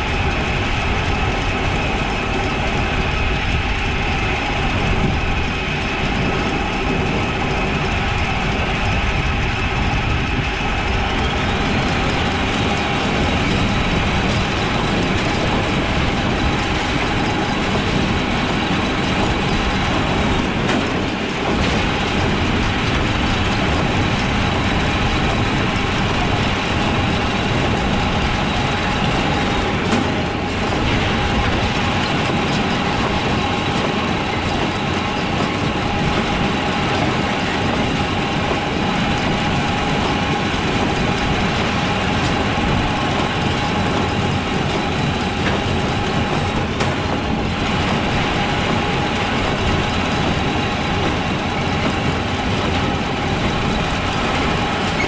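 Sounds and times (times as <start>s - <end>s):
steel wagon rattling: 0.0s - 55.0s.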